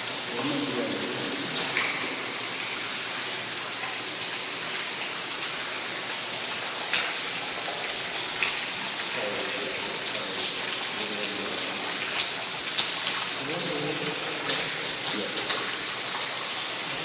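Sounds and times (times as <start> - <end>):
running and dripping water: 0.0 - 17.0
sharp drips and splashes: 0.0 - 17.0.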